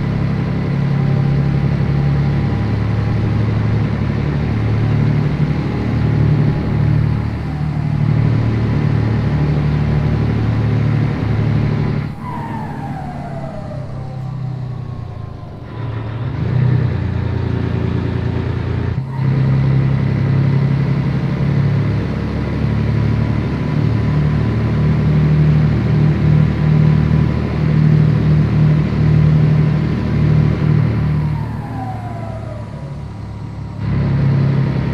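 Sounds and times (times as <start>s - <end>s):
diesel truck engine under load: 0.0s - 34.9s.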